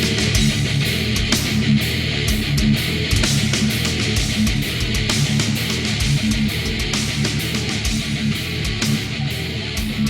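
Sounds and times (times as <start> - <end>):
bass guitar: 0.0 - 10.0
distorted electric guitar: 0.0 - 10.0
hard-hitting drum beat: 0.0 - 10.0.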